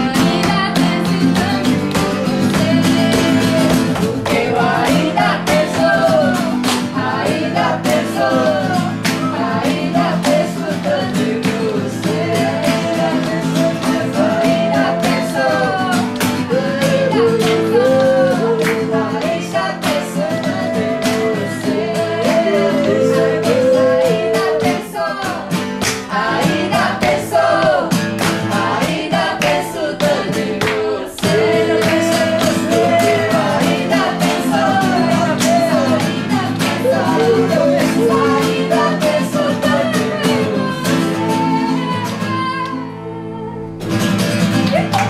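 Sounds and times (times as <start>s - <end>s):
acoustic guitars strumming: 0.0s - 45.0s
voices singing: 0.0s - 45.0s.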